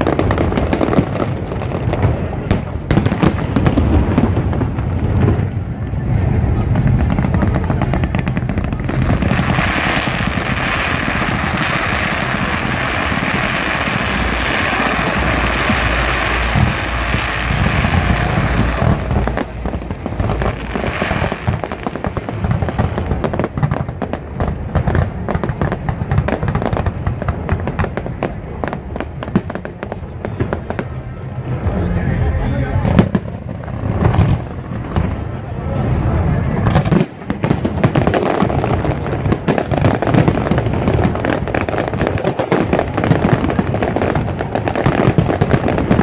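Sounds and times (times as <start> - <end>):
fireworks crackling: 0.0 - 46.0
fireworks cracks and bangs: 0.0 - 46.0.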